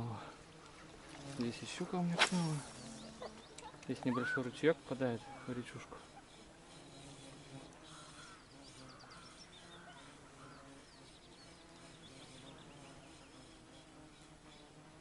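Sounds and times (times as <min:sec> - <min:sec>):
small birds trilling and chirping: 0:00.0 - 0:15.0.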